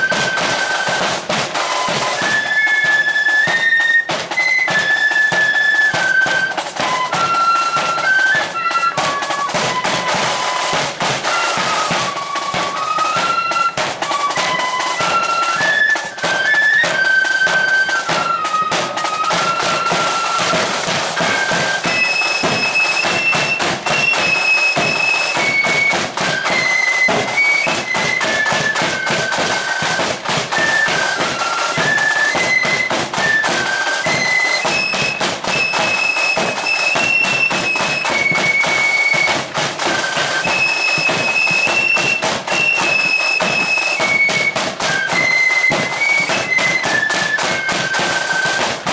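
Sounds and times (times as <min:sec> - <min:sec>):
flutes playing melody: 0:00.0 - 0:48.9.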